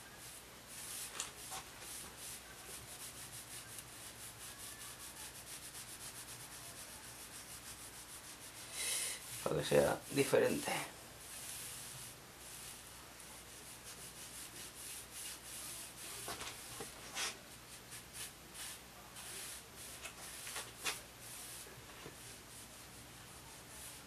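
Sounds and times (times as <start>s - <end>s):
faint rubbing strokes on wood: 0.0s - 24.0s.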